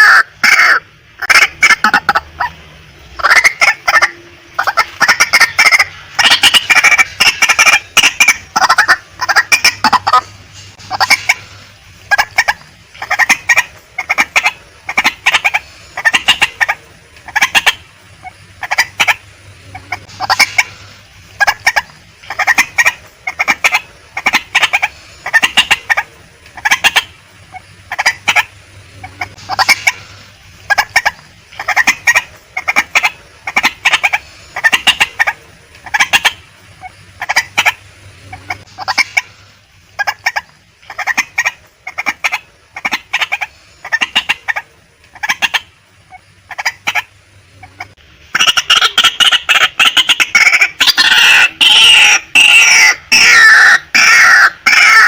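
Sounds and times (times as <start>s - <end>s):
waterhen calling: 0.0s - 55.0s.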